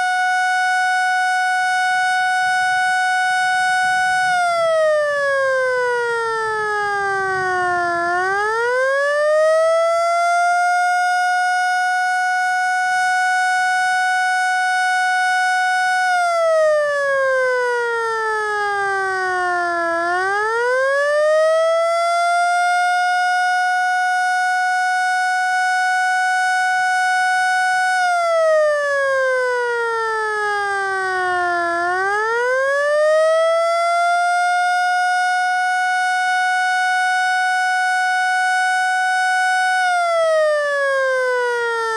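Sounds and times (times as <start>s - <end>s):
civil defense siren winding: 0.0s - 41.9s.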